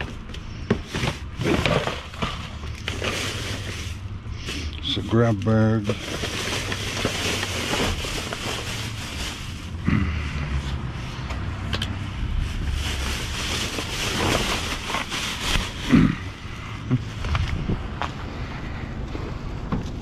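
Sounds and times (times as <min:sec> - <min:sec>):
plastic bags and cardboard rustling: 0:00.0 - 0:10.0, 0:12.0 - 0:18.3.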